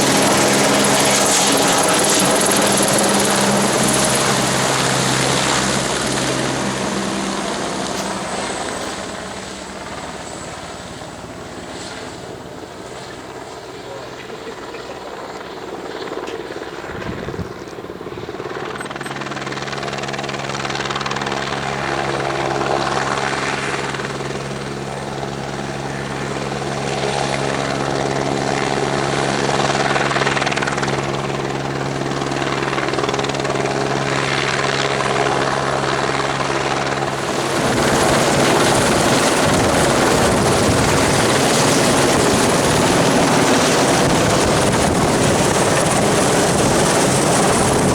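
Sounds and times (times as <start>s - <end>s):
helicopter running: 0.0s - 47.9s.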